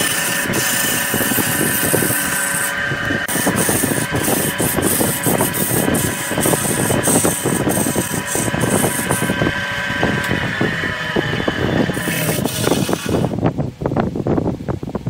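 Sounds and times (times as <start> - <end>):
gouge cutting spinning wood: 0.0 - 13.4
wood lathe running: 0.0 - 13.4.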